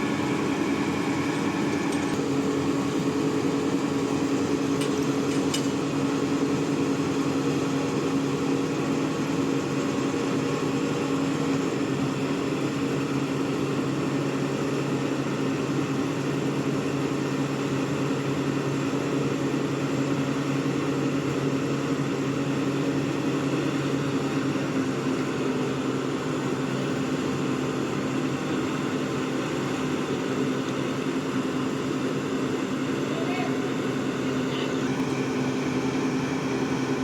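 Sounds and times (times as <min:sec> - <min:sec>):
heavy machinery engine humming: 0:00.0 - 0:37.0.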